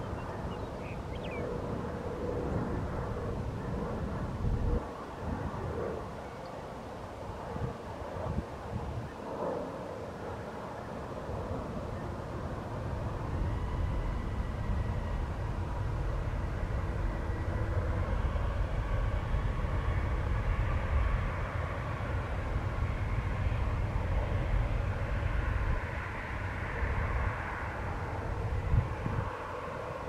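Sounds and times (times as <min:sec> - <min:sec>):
jet engine rumble: 0:00.0 - 0:30.0
thin jet whine: 0:00.0 - 0:30.0.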